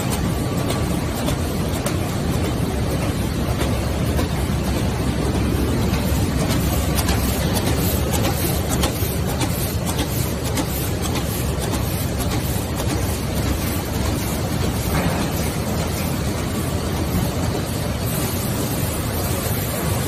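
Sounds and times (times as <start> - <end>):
paper cutting machine running: 0.0 - 20.0.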